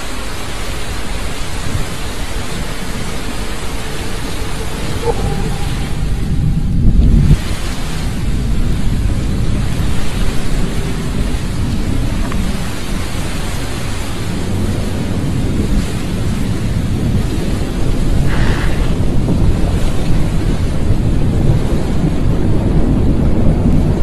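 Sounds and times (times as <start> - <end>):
rain-like hiss: 0.0 - 24.0
thunder-like rumble: 0.0 - 24.0.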